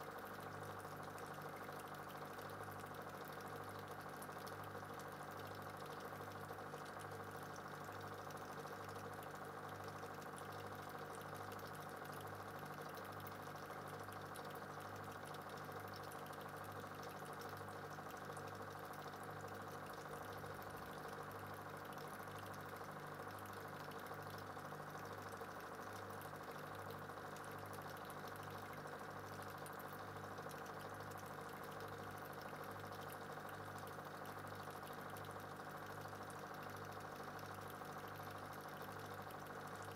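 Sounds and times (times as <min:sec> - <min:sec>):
small machine humming: 0:00.0 - 0:39.9.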